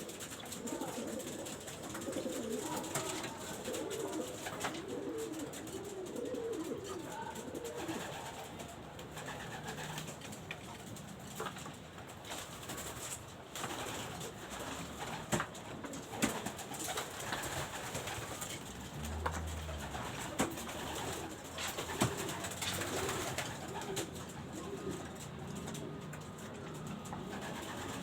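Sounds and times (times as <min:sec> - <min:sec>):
pigeons cooing: 0:00.0 - 0:11.6, 0:12.2 - 0:28.0.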